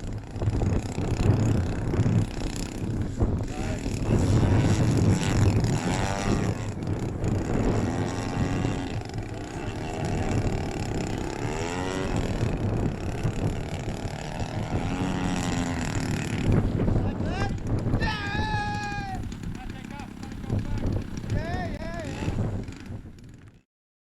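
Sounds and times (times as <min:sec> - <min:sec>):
model plane engine running: 0:00.0 - 0:23.6
wind noise on microphone: 0:00.0 - 0:23.6.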